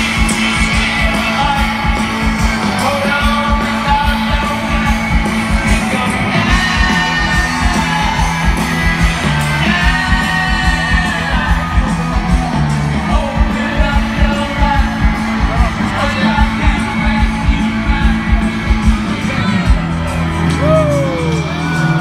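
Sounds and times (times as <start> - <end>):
bass: 0.0 - 22.0
guitar: 0.0 - 22.0
person singing: 0.0 - 22.0.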